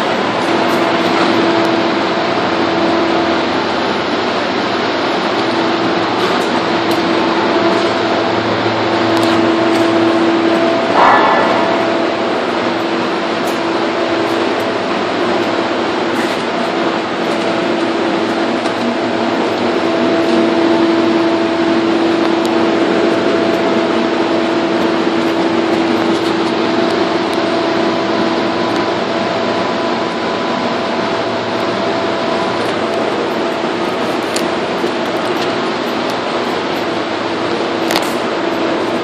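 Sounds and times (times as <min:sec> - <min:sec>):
higher machinery tone: 0:00.0 - 0:37.8
constant machinery hum: 0:00.0 - 0:39.0.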